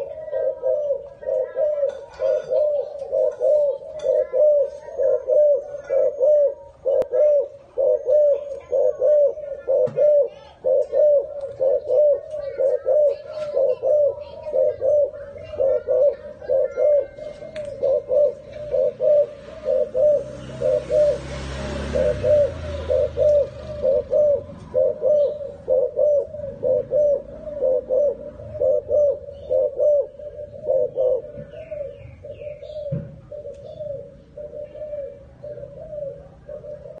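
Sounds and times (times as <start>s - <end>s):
dove cooing: 0.0s - 37.0s.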